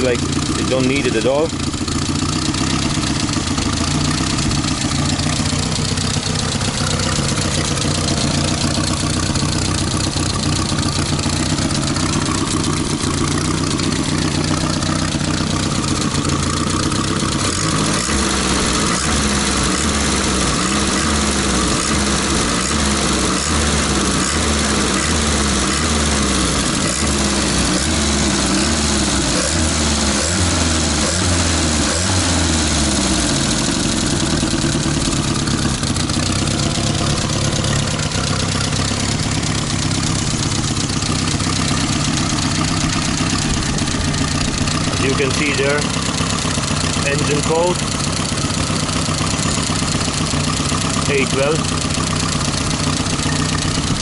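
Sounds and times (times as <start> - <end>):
car engine running: 0.0 - 54.0
engine misfiring: 0.0 - 54.0
engine revving: 0.0 - 54.0.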